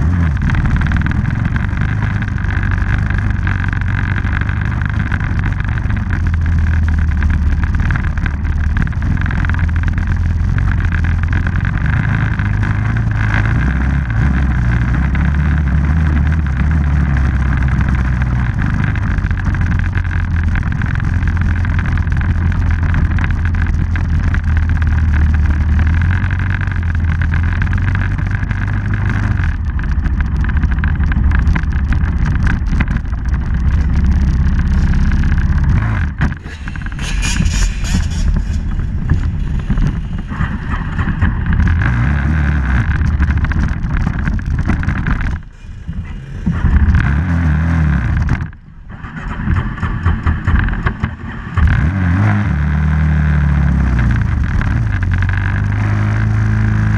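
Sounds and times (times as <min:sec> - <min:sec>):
dirt bike engine running: 0:00.0 - 0:56.9.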